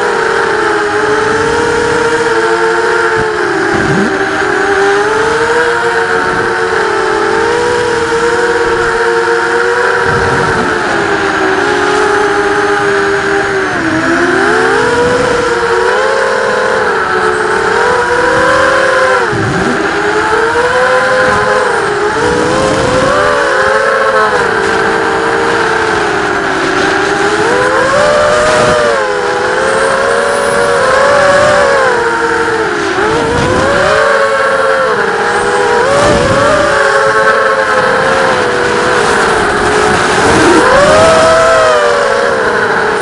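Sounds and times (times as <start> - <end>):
quadcopter motors whining: 0.0 - 43.0.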